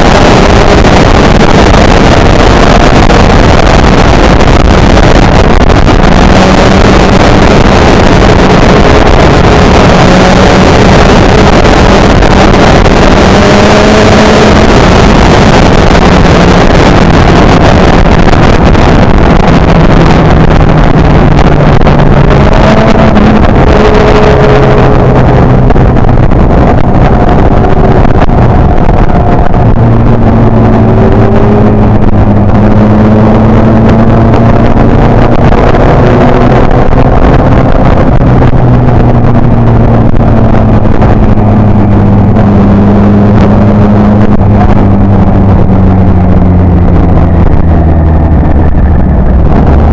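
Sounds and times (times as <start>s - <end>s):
motorcycle engine running at speed: 0.0s - 49.9s
wind noise on microphone: 0.0s - 49.9s.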